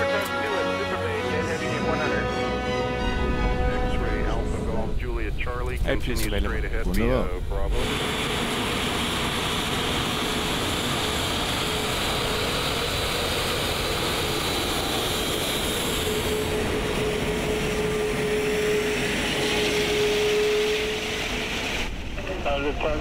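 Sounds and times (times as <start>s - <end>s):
jet engines whining: 0.0s - 23.0s.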